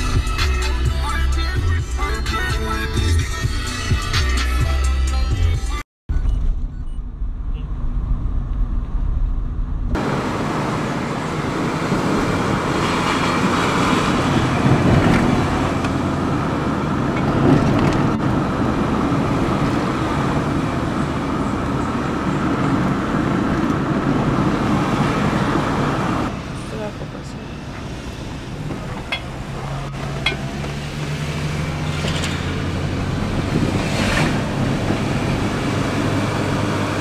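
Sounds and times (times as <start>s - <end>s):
vehicle road noise: 0.0s - 37.0s.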